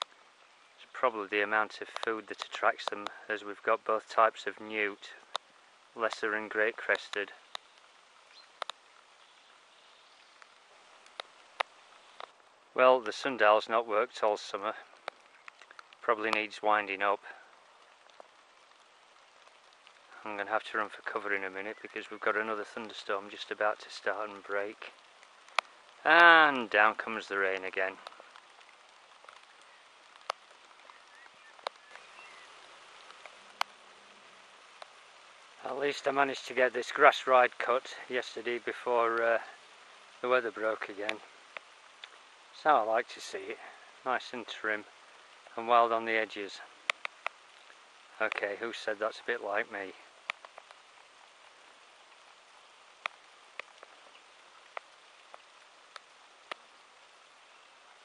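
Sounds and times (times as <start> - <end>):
light rain hissing: 0.0 - 58.0
raindrops tapping close by: 0.0 - 58.0.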